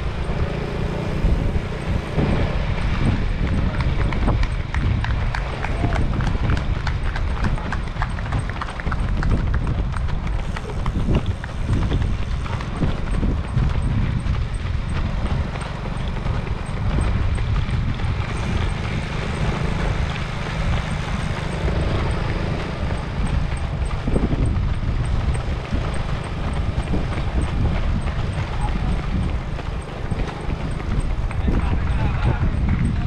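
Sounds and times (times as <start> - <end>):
running footsteps on asphalt: 0.0 - 33.0
low rumble: 1.1 - 33.0.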